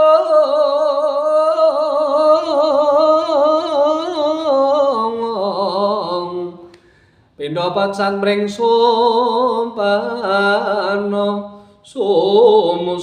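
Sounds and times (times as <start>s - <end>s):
man singing unaccompanied: 0.0s - 6.7s, 7.4s - 13.0s.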